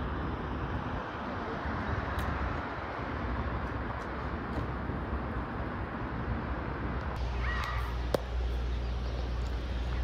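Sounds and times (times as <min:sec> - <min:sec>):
distant city traffic rumble: 0:00.0 - 0:10.0.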